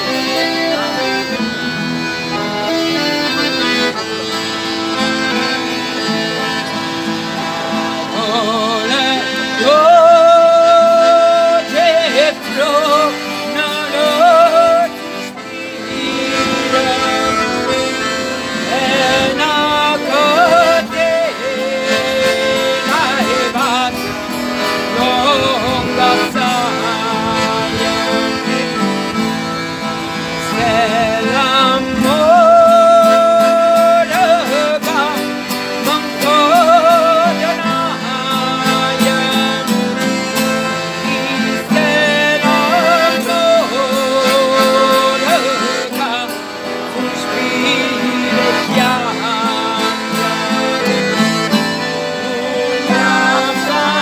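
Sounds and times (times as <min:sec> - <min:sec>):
acoustic guitar: 0:00.0 - 0:54.0
button accordion: 0:00.0 - 0:54.0.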